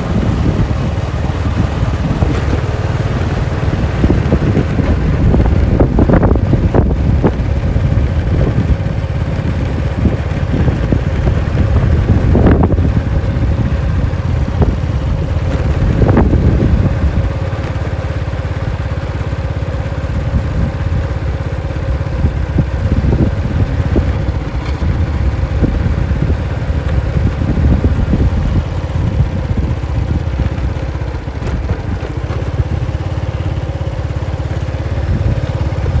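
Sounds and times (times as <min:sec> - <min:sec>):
motorcycle engine low rumble: 0:00.0 - 0:36.0
road and wind noise: 0:00.0 - 0:36.0.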